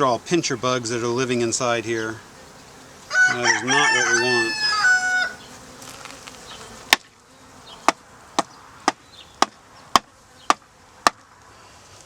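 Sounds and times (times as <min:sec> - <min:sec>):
faint hum of bees: 0:00.0 - 0:12.0.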